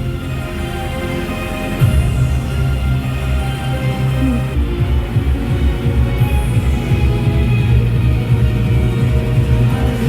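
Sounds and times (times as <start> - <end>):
music with pulsing bass: 0.0 - 10.0.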